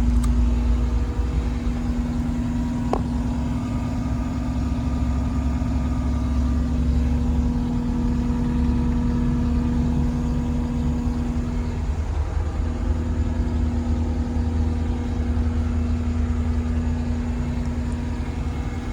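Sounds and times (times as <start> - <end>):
diesel engine running steadily: 0.0 - 18.9.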